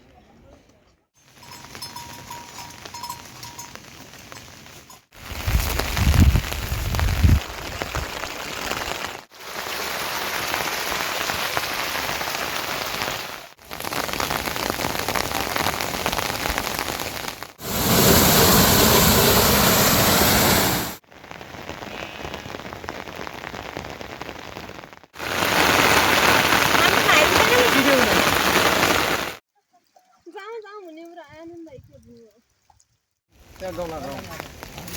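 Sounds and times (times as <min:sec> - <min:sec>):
steady rain falling: 0:01.2 - 0:32.2, 0:33.3 - 0:34.9.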